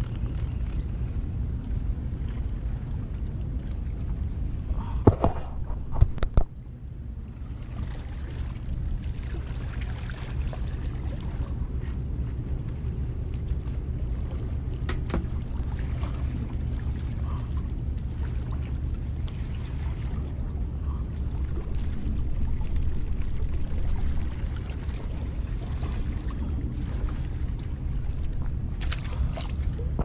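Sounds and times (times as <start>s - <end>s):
sea water at shoreline: 0.0s - 30.0s
wind rumble on microphone: 0.0s - 30.0s.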